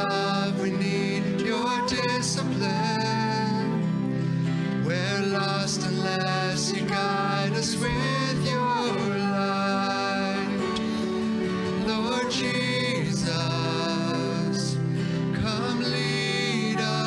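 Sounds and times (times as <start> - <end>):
man singing into a microphone: 0.0 - 3.9, 4.8 - 11.1, 11.7 - 17.0
acoustic guitar: 0.0 - 17.0
keyboard: 0.0 - 17.0
piano: 0.0 - 17.0.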